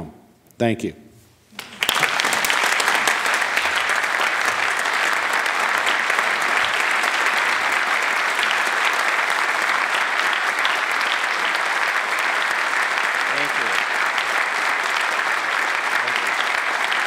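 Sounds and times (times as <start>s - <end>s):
crowd applauding: 1.6s - 17.0s.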